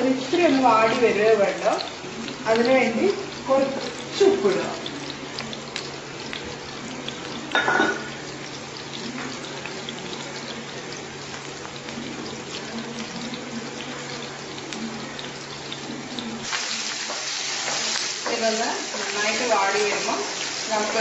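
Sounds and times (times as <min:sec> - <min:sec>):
onions frying in oil: 0:00.0 - 0:21.0.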